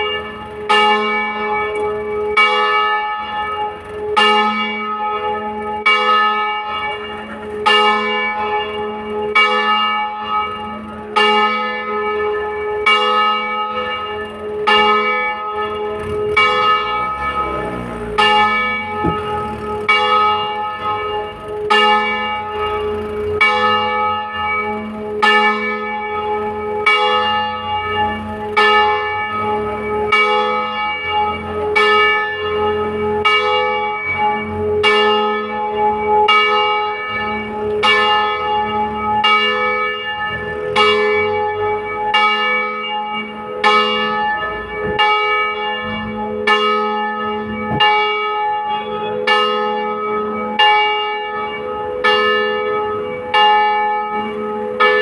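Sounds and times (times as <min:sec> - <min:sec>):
church bell ringing: 0:00.0 - 0:55.0.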